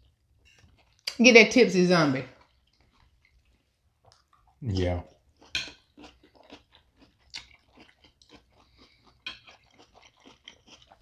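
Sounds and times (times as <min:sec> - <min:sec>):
chewing with soft crunches: 0:00.0 - 0:01.1, 0:02.3 - 0:11.0.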